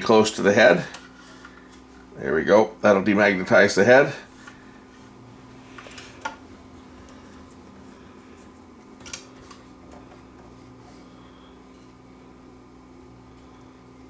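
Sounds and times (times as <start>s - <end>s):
demagnetizer coil humming: 0.0s - 14.0s.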